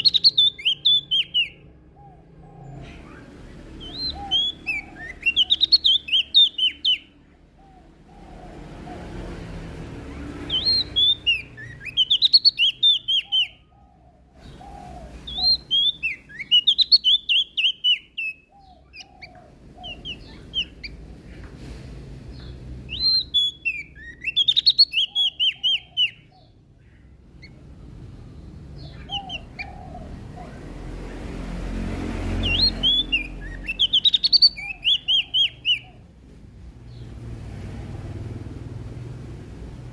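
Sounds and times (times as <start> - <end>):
bird singing rapid sharp notes: 0.0 - 21.4, 22.3 - 36.1.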